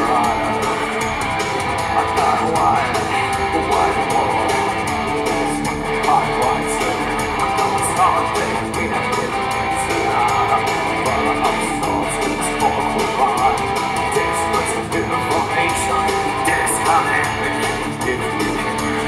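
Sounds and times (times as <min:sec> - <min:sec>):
gothic rock electric guitar music: 0:00.0 - 0:19.0.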